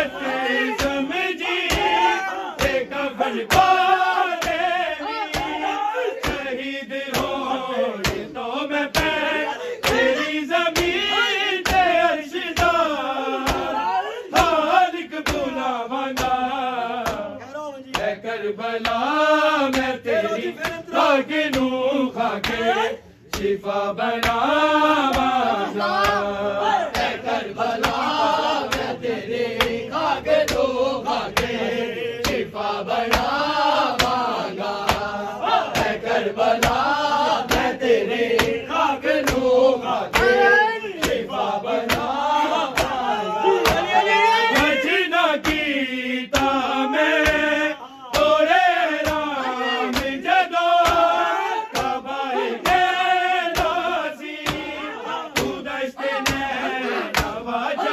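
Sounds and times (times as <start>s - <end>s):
men chanting a lament: 0.0s - 57.9s
rhythmic chest slaps: 0.0s - 57.9s.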